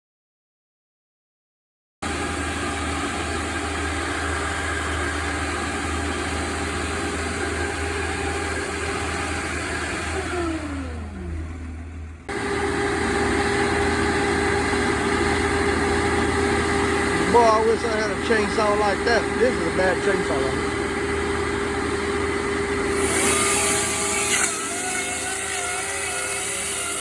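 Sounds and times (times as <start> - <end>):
steady engine hum: 2.0 - 25.2
engine running and winding down: 2.0 - 27.0.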